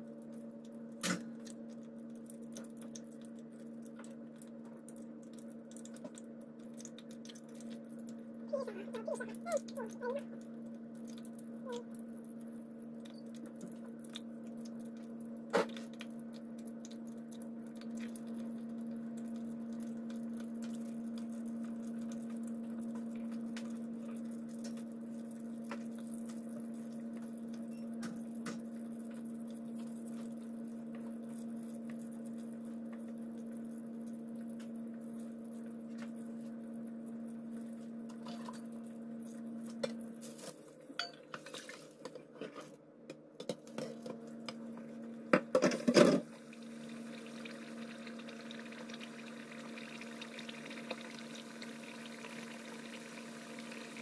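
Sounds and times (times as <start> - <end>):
chicken deep-frying crackles: 0.0 - 42.0, 43.6 - 54.0
induction hob humming: 0.0 - 54.0.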